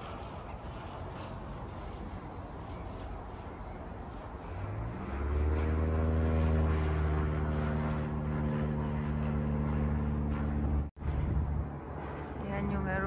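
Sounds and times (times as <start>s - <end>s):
propeller aeroplane engine hum: 0.0s - 13.0s.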